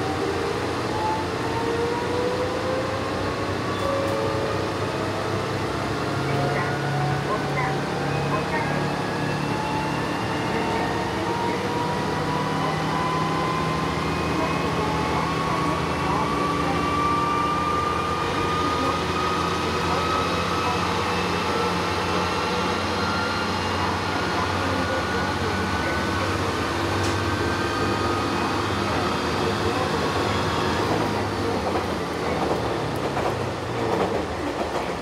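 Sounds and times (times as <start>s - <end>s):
diesel engine drone: 1.5s - 33.7s.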